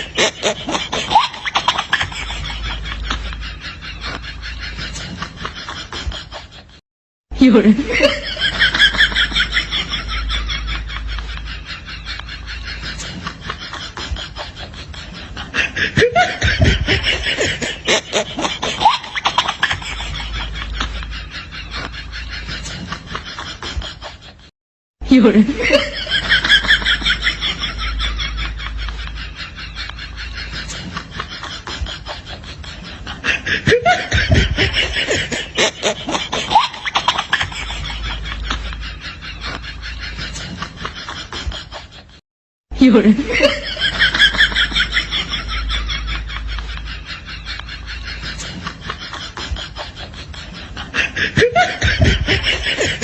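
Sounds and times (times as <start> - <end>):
person laughing: 0.0 - 6.8, 7.4 - 42.2, 42.8 - 53.0.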